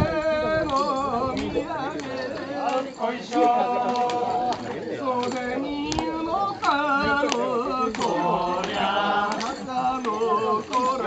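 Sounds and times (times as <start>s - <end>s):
person singing ornamented melody: 0.0s - 11.0s.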